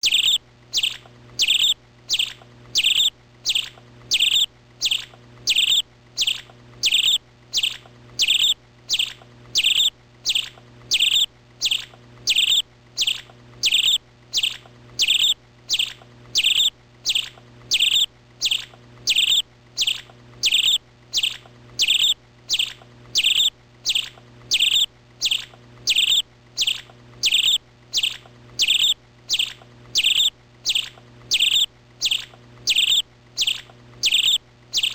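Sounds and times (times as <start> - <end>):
bird chirping: 0.0 - 34.9
faint low hum: 0.0 - 34.9.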